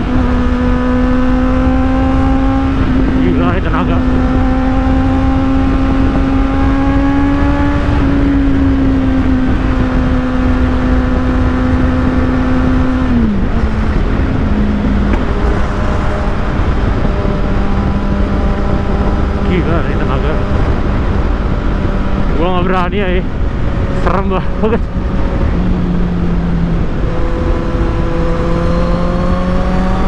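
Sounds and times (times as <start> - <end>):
motorcycle engine at high revs: 0.0 - 30.0
wind rumble on microphone: 0.0 - 30.0.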